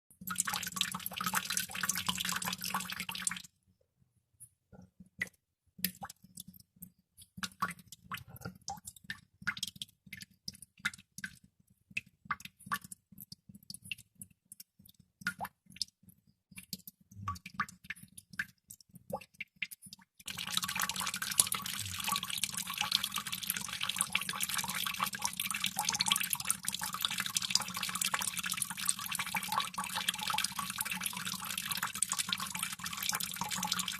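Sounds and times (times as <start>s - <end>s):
water droplets dripping: 0.1s - 3.5s, 4.4s - 33.9s.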